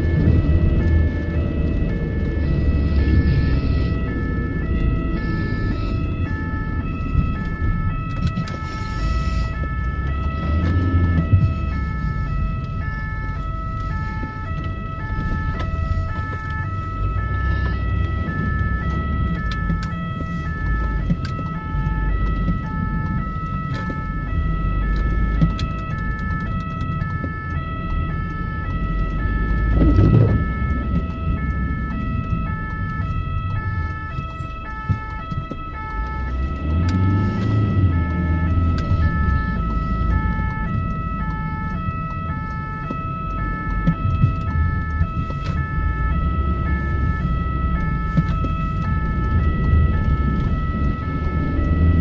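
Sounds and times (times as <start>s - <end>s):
engine and tyre rumble: 0.0s - 52.0s
two-tone ambulance siren: 0.0s - 52.0s.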